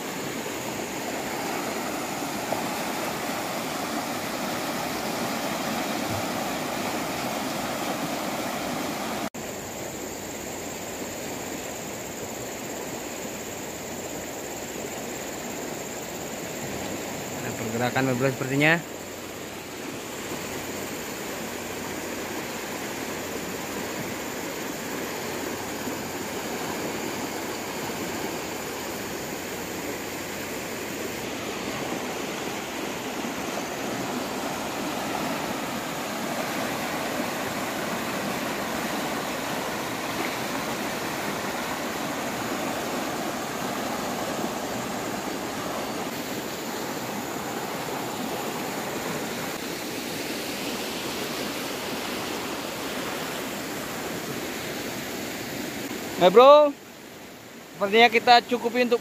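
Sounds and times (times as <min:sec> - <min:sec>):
river rushing: 0:00.0 - 0:59.0.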